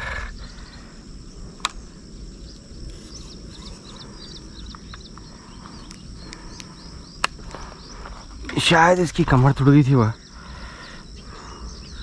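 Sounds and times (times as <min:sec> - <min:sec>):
high-pitched insect drone: 0:00.0 - 0:12.0
small birds chirping: 0:00.0 - 0:12.0.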